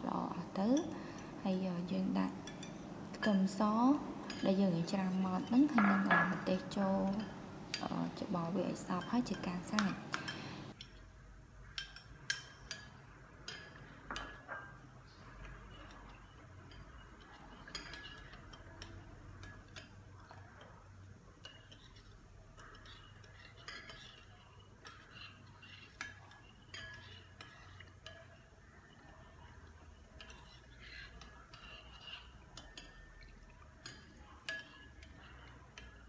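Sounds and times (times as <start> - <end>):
metal spoon clinking on glass bowl: 2.4 - 8.0, 8.7 - 11.0, 11.7 - 14.8, 15.5 - 20.7, 21.4 - 36.0.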